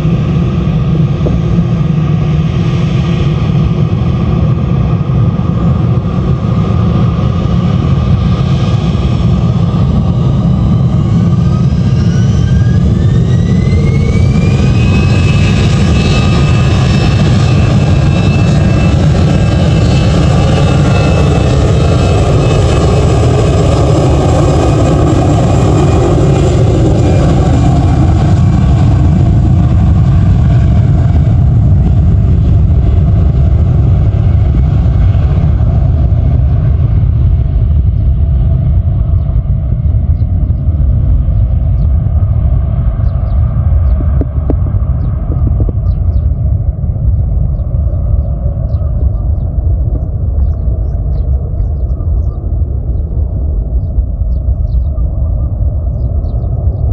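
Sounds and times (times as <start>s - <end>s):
jet engine rumble: 0.0s - 56.9s
jet engine whine: 0.0s - 56.9s.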